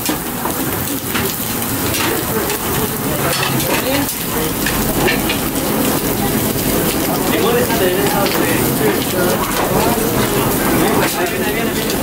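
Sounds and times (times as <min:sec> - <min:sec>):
flames flaring: 0:00.0 - 0:12.0
meat sizzling on a grill: 0:00.0 - 0:12.0
utensils clinking: 0:00.0 - 0:12.0.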